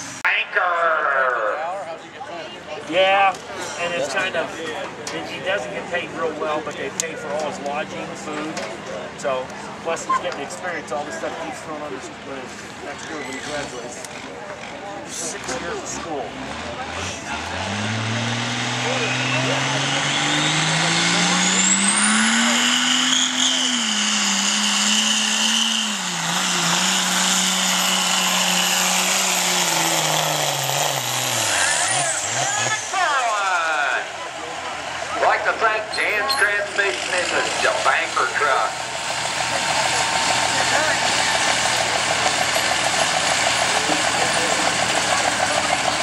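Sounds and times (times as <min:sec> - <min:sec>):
diesel truck engine under load: 0:02.8 - 0:46.0.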